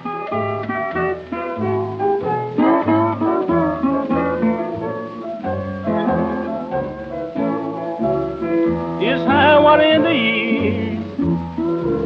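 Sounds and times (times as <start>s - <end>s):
low piano bass notes: 0.0s - 12.0s.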